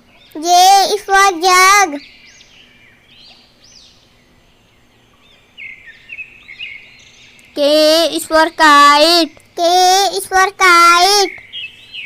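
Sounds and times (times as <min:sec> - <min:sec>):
background hiss: 0:00.0 - 0:12.0
bird chirps: 0:00.0 - 0:12.0.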